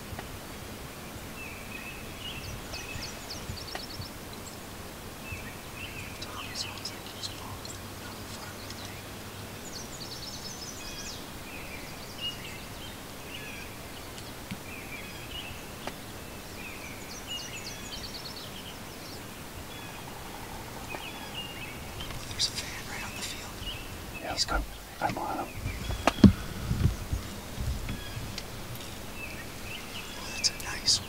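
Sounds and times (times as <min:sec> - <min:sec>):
outdoor background hiss: 0:00.0 - 0:31.0
songbirds trilling: 0:00.0 - 0:31.0
bird chirps: 0:01.4 - 0:04.6, 0:05.3 - 0:31.0.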